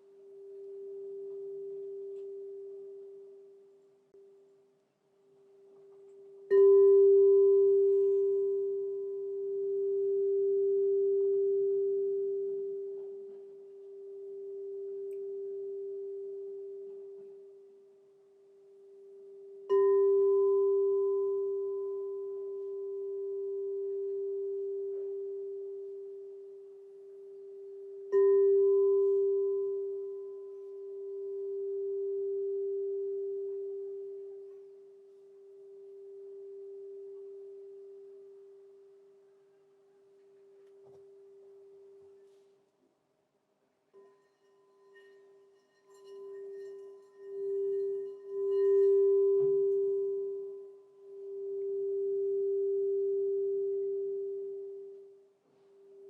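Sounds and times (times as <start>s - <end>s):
singing bowl ringing: 0.0s - 3.7s, 5.9s - 39.2s, 43.9s - 56.0s.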